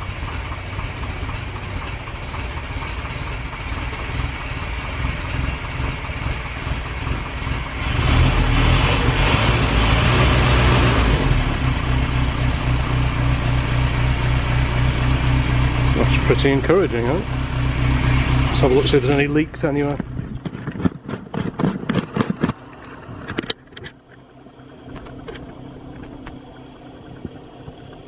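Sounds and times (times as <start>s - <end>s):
car engine idling: 0.0s - 21.4s, 22.6s - 28.0s.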